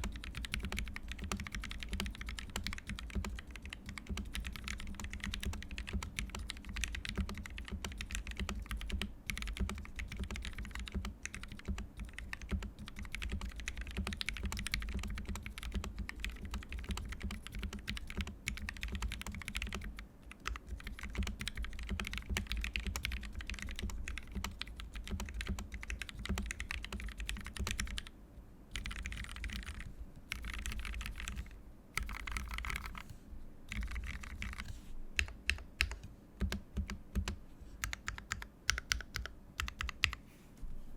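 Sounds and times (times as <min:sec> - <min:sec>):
mechanical keyboard typing: 0:00.0 - 0:28.1, 0:28.7 - 0:33.1, 0:33.7 - 0:40.2.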